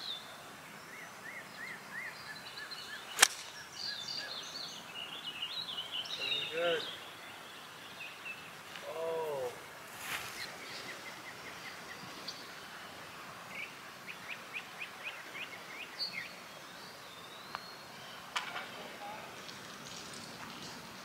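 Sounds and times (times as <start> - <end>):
steady outdoor hiss: 0.0 - 21.0
wild birds chirping: 0.0 - 21.0.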